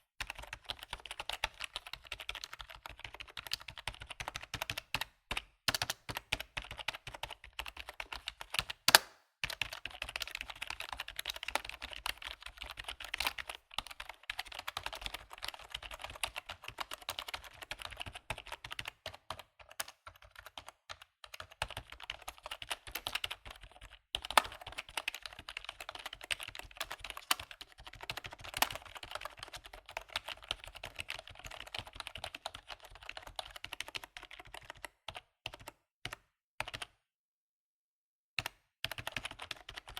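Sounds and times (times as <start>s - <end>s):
keyboard typing: 0.2s - 36.9s, 38.4s - 39.9s.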